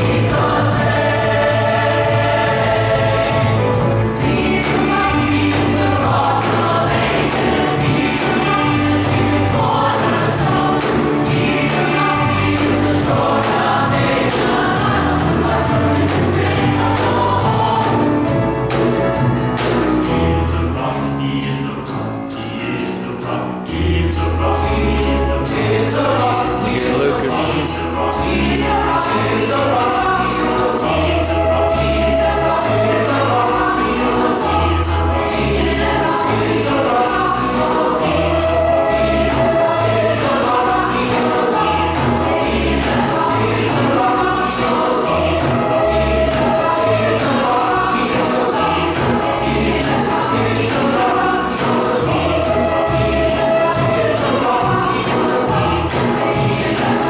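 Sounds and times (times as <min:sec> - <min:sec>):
instrumental accompaniment with beat: 0:00.0 - 0:57.0
youth choir singing gospel: 0:00.0 - 0:57.0.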